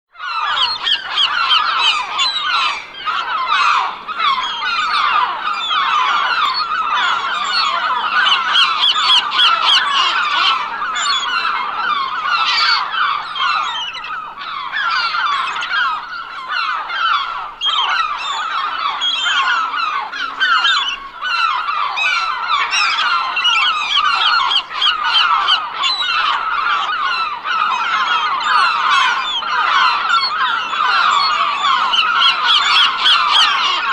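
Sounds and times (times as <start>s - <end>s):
gulls calling: 0.2s - 33.9s.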